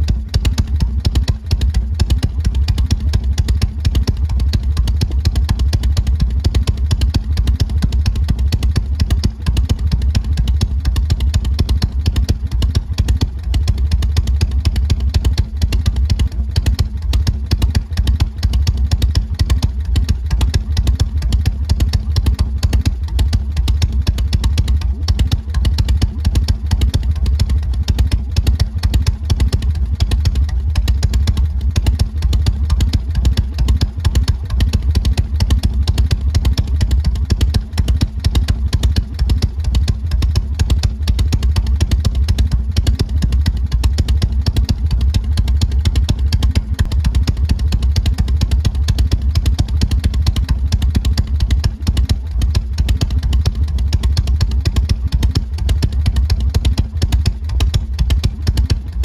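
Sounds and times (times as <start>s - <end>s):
motorcycle engine exhaust beat: 0.0s - 59.0s.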